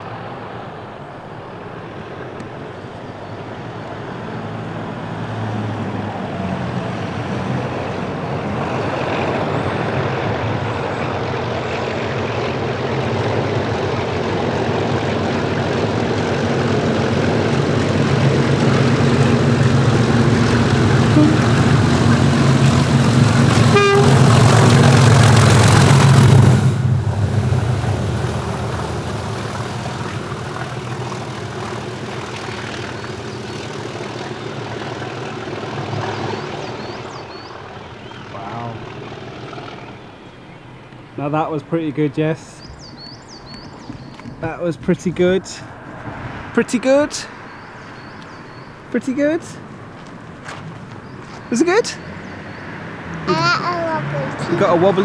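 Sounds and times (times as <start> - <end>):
diesel locomotive engine working hard: 0.0 - 46.0.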